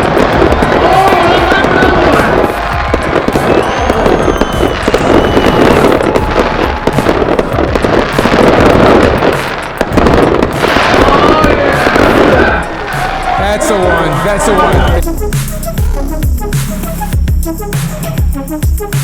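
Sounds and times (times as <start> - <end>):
fireworks barrage: 0.0 - 19.0.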